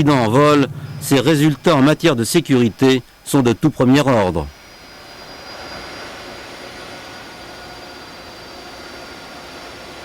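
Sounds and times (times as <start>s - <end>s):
thin engine whine: 0.0s - 3.5s, 4.1s - 10.0s
jet engines rushing: 0.0s - 10.0s.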